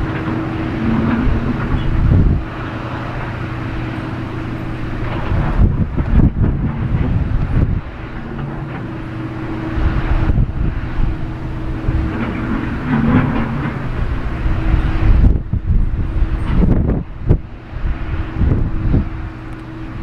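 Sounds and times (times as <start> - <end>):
jet engines humming: 0.0 - 20.0
wind rumbling on microphone: 0.0 - 20.0.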